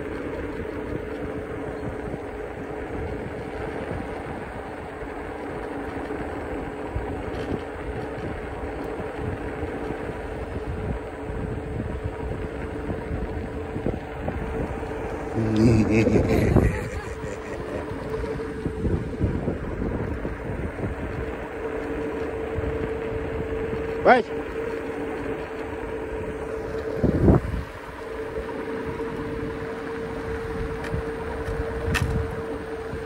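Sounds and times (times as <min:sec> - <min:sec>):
wind noise: 0:00.0 - 0:24.0, 0:25.1 - 0:33.0
electric scooter motor hum: 0:00.0 - 0:33.0
small wheels rumbling on tarmac: 0:00.0 - 0:33.0.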